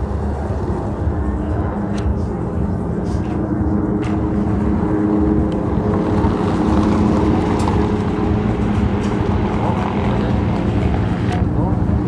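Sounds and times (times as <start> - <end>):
helicopters flying overhead: 0.0 - 12.0.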